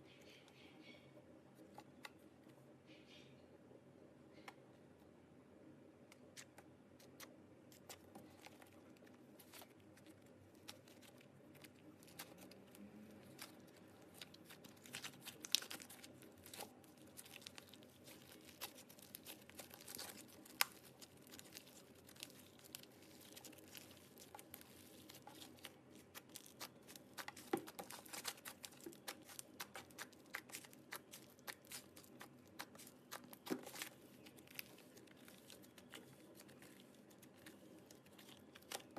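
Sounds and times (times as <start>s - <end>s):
slime crackling and popping: 6.2s - 38.9s.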